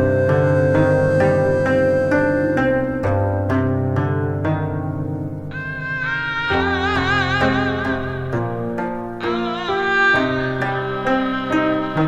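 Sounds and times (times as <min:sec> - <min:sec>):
plucked string notes: 0:00.0 - 0:12.0.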